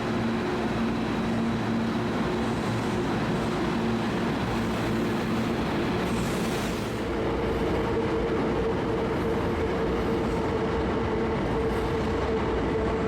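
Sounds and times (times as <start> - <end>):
electric train rumbling: 0.0 - 13.0
train humming tone: 0.0 - 13.0.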